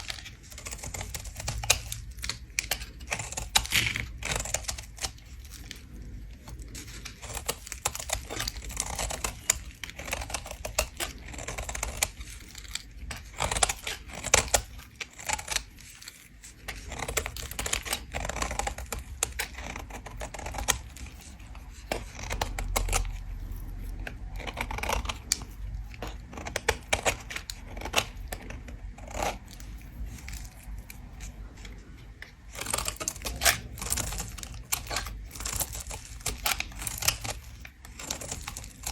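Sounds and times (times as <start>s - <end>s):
soap being scraped: 0.0s - 38.9s.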